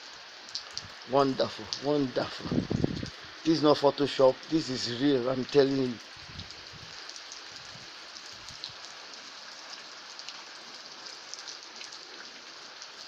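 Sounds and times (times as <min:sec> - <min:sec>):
rain hiss: 0:00.0 - 0:13.0
raindrops ticking: 0:00.5 - 0:13.0.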